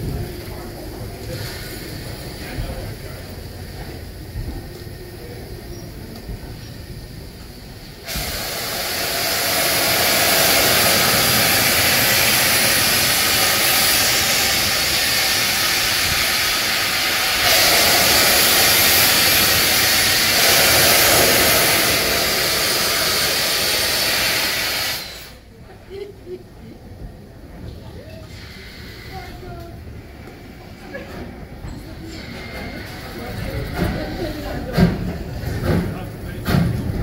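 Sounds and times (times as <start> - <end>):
steam locomotive venting steam: 0.0 - 25.7, 27.7 - 37.0.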